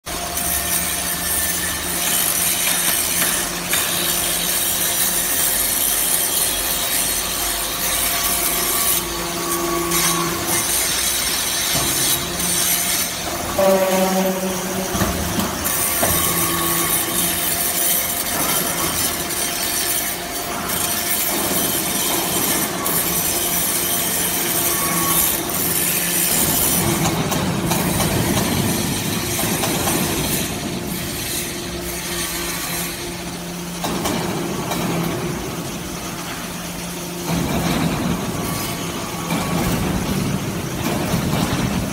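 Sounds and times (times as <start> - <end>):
hydraulic unit hum: 0.1 - 41.9
metallic scraping and hiss: 0.2 - 41.9.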